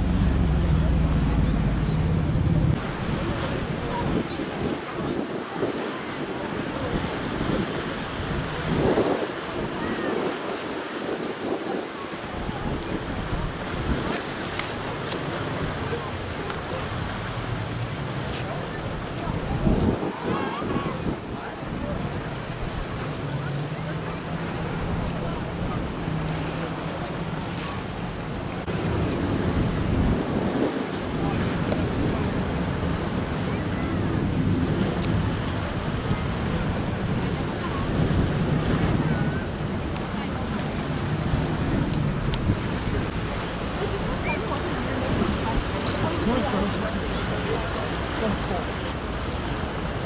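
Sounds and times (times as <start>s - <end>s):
sea washing: 0.0s - 50.0s
surf: 0.0s - 50.0s
wind buffeting microphone: 0.0s - 50.0s.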